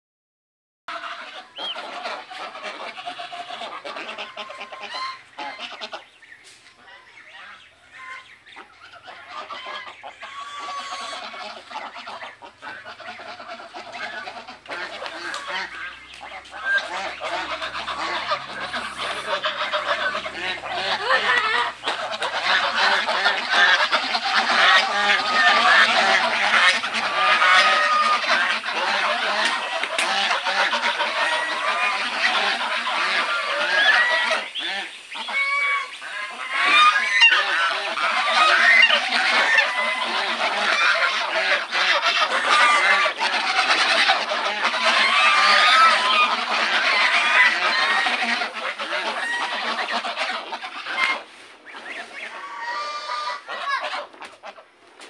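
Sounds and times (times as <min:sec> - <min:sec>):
geese honking: 0:00.9 - 0:55.0.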